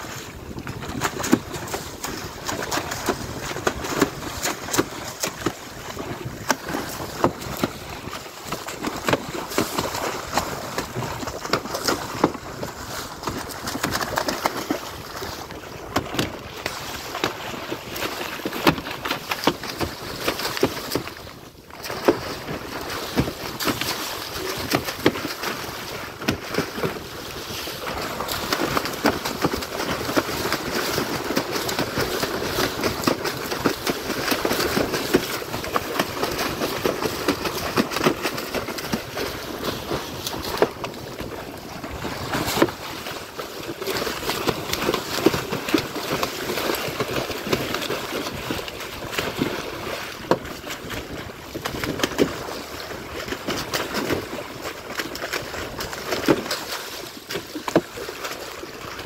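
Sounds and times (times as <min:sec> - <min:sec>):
water rushing along boat: 0:00.0 - 0:59.0.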